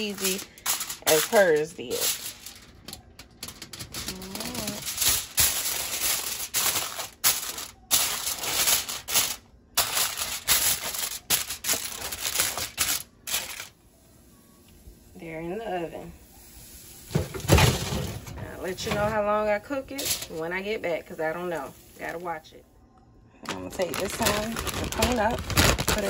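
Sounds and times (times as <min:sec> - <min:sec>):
aluminium foil crinkling: 0:00.0 - 0:22.5, 0:23.4 - 0:26.0.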